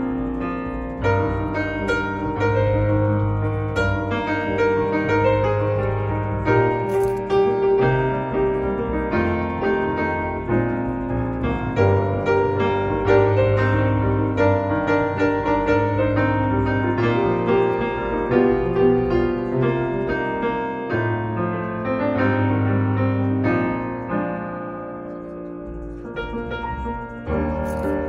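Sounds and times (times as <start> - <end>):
gentle solo piano piece: 0.0 - 28.0.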